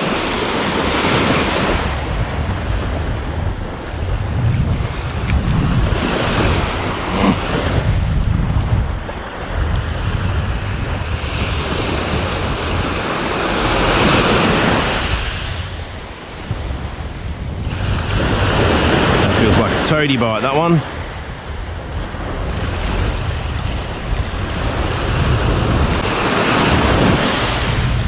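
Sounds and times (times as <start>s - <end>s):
surf washing up a beach: 0.0s - 28.0s
wind rumble on microphone: 0.0s - 28.0s.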